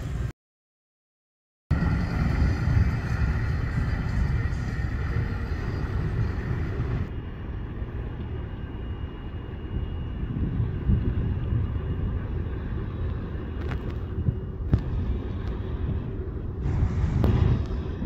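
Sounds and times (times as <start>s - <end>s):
boat engines rumbling: 1.7s - 18.0s.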